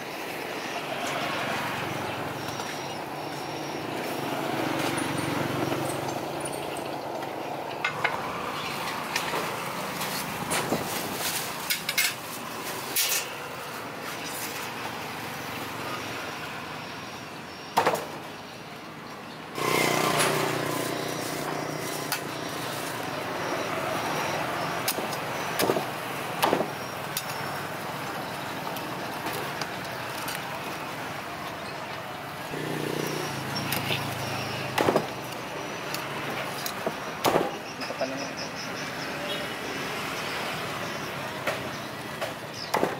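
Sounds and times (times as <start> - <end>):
vehicles passing: 0.0 - 42.9.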